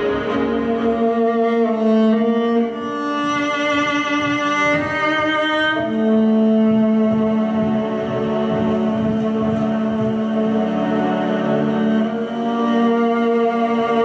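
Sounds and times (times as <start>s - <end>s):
bowed strings playing slow music: 0.0s - 14.0s.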